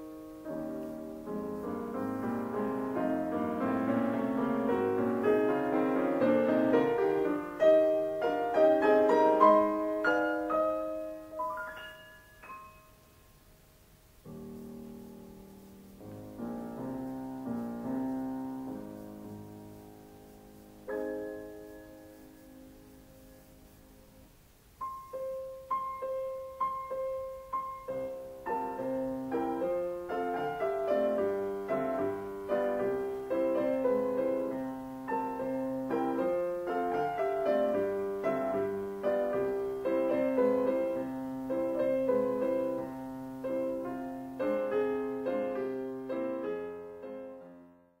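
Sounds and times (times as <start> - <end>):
solo piano music: 0.0 - 48.0.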